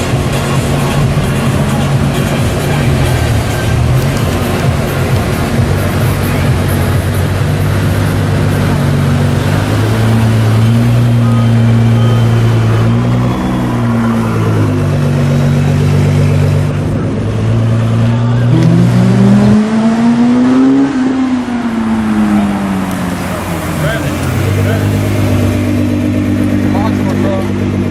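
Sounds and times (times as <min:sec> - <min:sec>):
car accelerating past: 0:00.0 - 0:27.9
sports car engines idling: 0:00.0 - 0:27.9.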